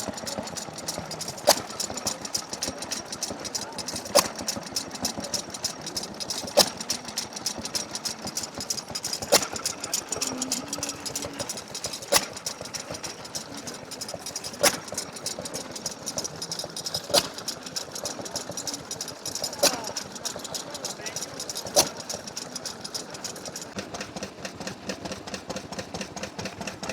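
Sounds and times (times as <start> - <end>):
fast steady ticking: 0.0 - 26.9.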